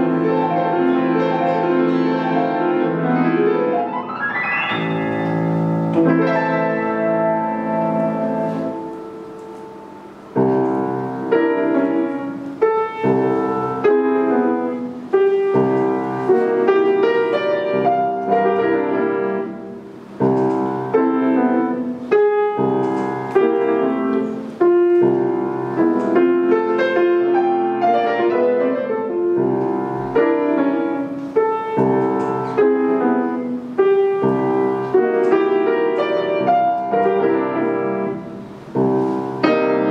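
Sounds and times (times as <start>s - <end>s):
solo grand piano: 0.0s - 39.9s.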